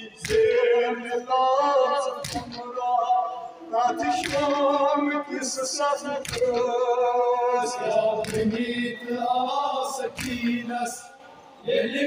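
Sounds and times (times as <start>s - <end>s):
men singing a lament unaccompanied: 0.0s - 12.0s.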